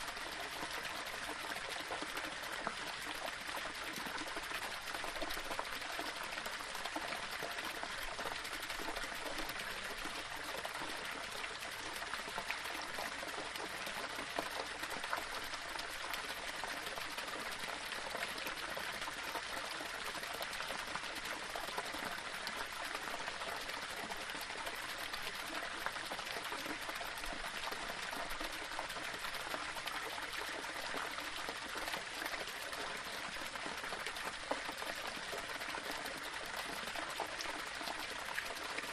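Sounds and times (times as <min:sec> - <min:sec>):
waterfall splashing over stones: 0:00.0 - 0:38.9.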